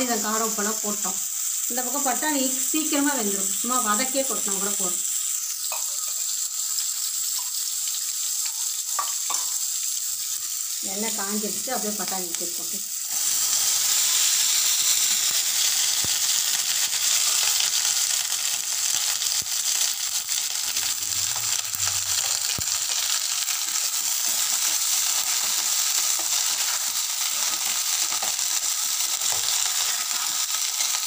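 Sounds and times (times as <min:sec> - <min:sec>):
peas sizzling in hot oil: 0:00.0 - 0:31.0.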